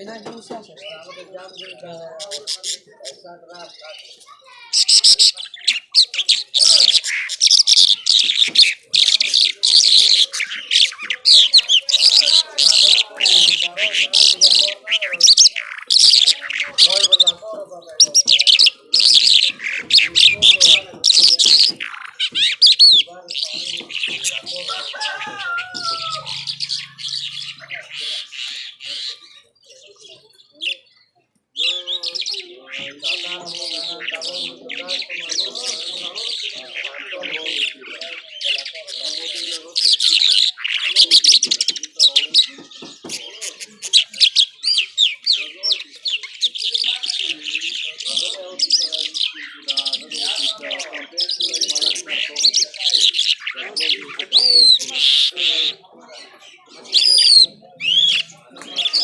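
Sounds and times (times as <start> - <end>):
lark chirping and trilling: 0.0 - 31.0, 31.6 - 55.9, 56.8 - 59.0.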